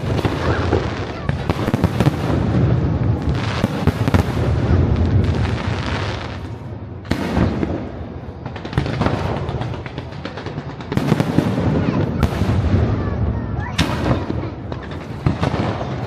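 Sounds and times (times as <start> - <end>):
fireworks crackling and booming: 0.0 - 16.0.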